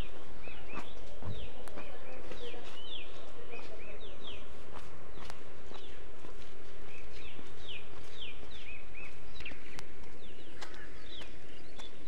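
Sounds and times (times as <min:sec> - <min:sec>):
birds chirping: 0:00.0 - 0:12.0
footsteps on tiles: 0:00.1 - 0:12.0.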